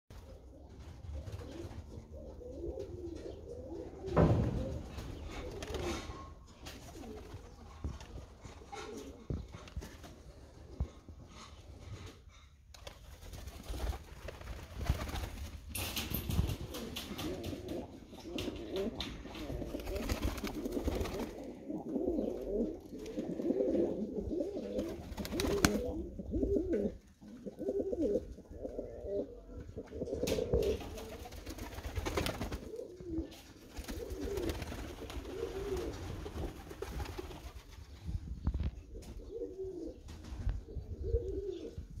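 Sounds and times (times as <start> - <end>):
pigeons cooing: 0.2 - 12.4, 16.3 - 42.0.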